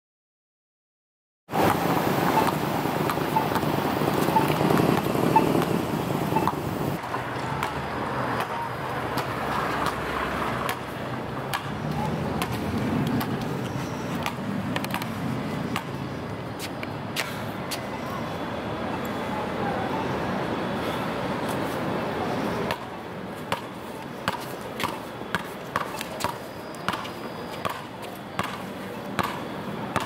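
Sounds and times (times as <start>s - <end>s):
road traffic hum: 1.5s - 30.0s.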